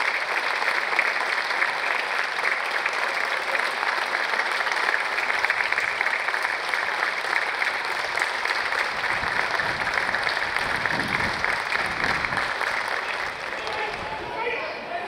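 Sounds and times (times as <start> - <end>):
crowd applauding: 0.0 - 14.6.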